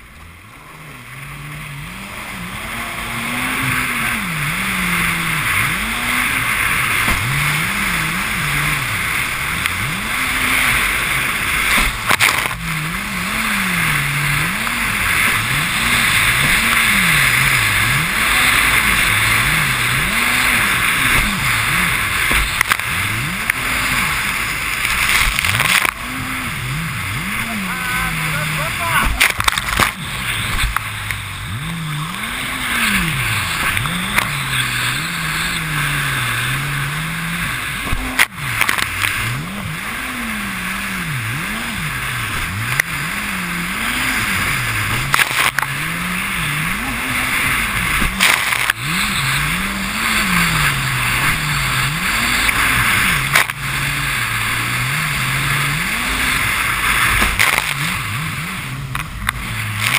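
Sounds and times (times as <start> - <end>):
jet ski engine revving: 0.0 - 59.9
wind: 0.0 - 59.9
water spray rushing: 2.0 - 59.9
hull thumping on waves: 2.6 - 59.9.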